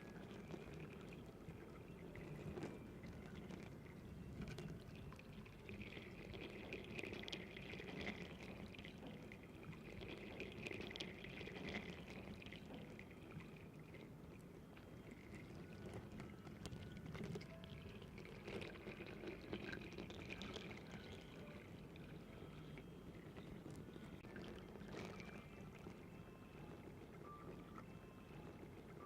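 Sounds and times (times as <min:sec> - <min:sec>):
faint trickling liquid: 0:00.0 - 0:29.0
small clicks and ticks: 0:00.0 - 0:29.0.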